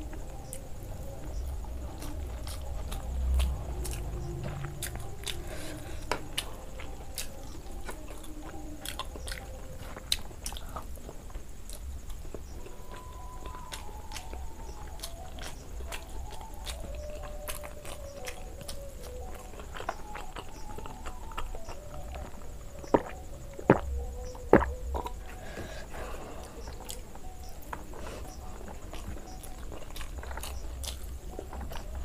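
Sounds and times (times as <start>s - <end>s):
person chewing: 1.2s - 32.0s.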